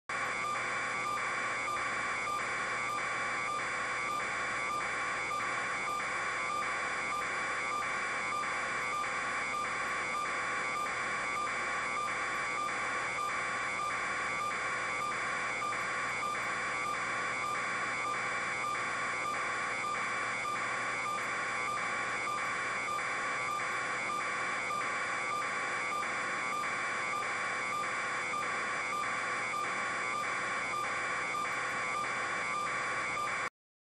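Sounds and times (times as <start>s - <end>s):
constant hum of steady tones: 0.1s - 33.5s
pulsing electronic buzzing tone: 0.1s - 33.5s.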